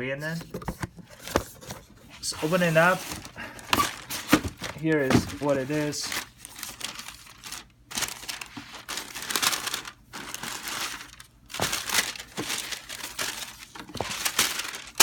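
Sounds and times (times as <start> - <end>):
packing paper crinkling: 2.4 - 15.0.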